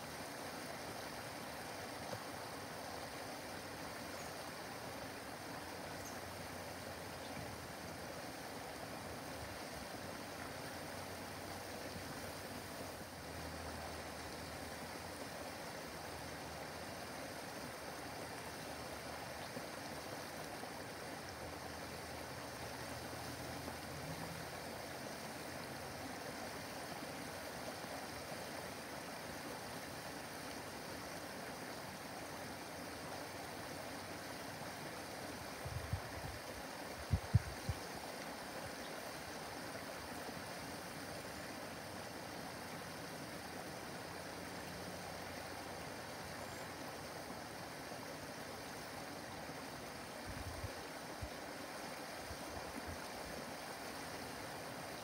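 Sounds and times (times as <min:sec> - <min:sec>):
waterfall splashing into pond: 0:00.0 - 0:55.0.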